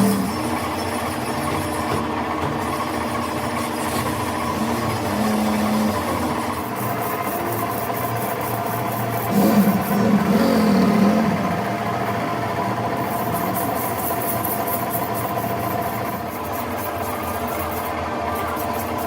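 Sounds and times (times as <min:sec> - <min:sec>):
motor droning: 0:00.0 - 0:02.0, 0:03.4 - 0:16.6.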